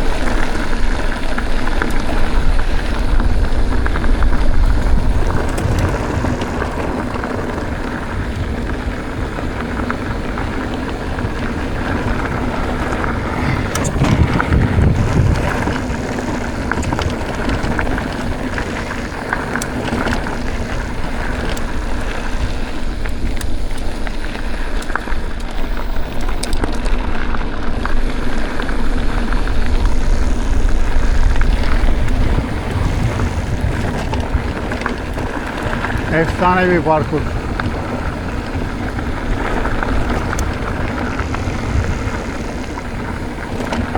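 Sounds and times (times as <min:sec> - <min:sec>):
bike clicks and rattles: 0:00.0 - 0:43.9
tyres rolling on loose ground: 0:00.0 - 0:43.9
wind buffeting microphone: 0:00.0 - 0:43.9.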